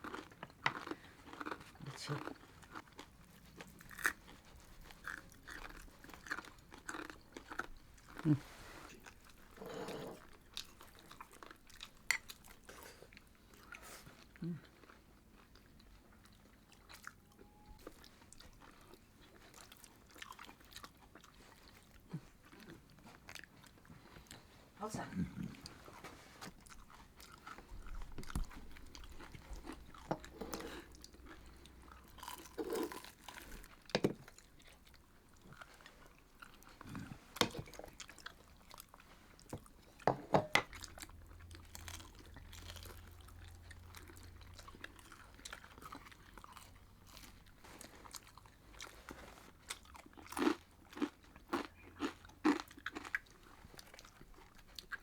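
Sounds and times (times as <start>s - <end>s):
crisp food being chewed: 0.0s - 55.0s.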